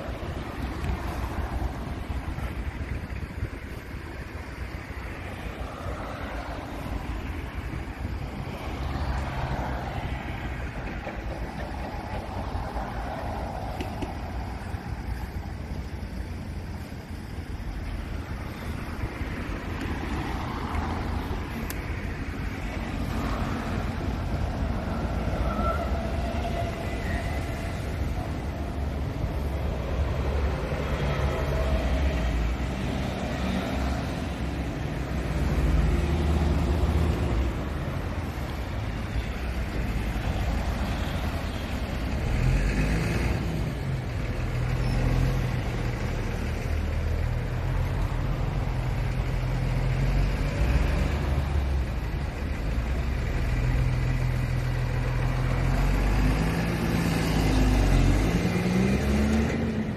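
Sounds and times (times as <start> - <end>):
cars driving past: 0.0 - 59.9.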